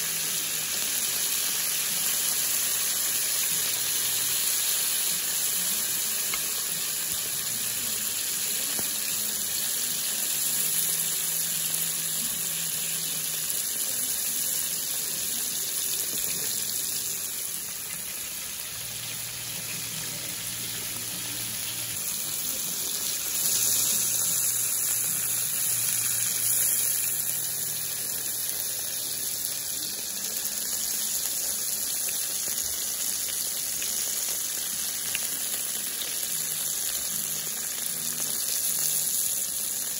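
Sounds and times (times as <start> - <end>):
steak sizzling on a plate: 0.0 - 39.9.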